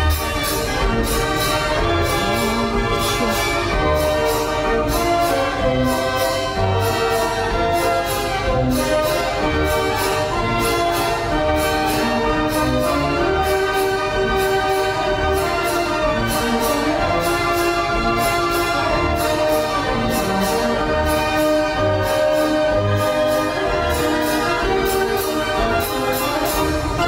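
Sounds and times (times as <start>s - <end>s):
orchestral music with brass: 0.0s - 27.0s.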